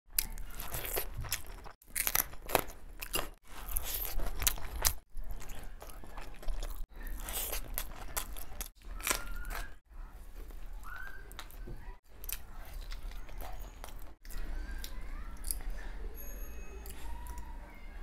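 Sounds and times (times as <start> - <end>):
person chewing food: 0.1 - 15.8.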